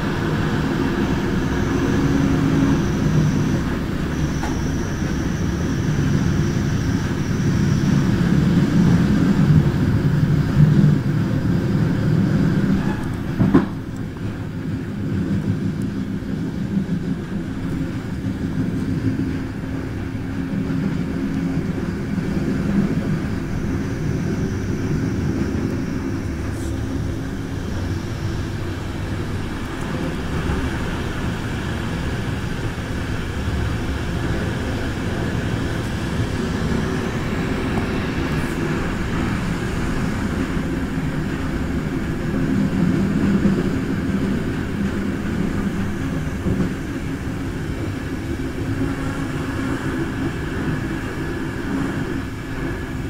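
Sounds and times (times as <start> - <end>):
train rumble: 0.0 - 53.0
wheels clattering on rails: 0.0 - 53.0.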